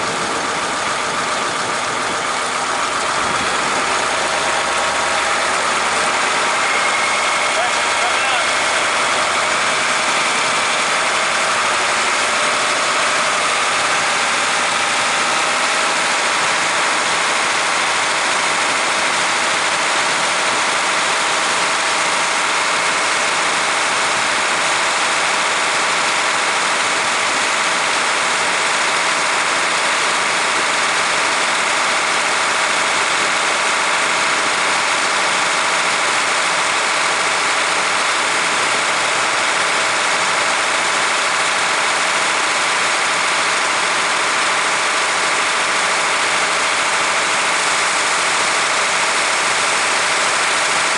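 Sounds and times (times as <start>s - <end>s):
fire engine running with pump engaged: 0.0s - 50.9s.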